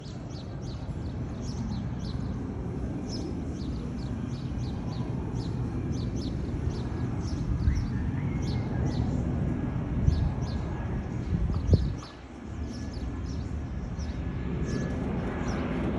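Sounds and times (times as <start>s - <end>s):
small birds chirping: 0.0s - 15.9s
steady low rumble: 0.0s - 15.9s.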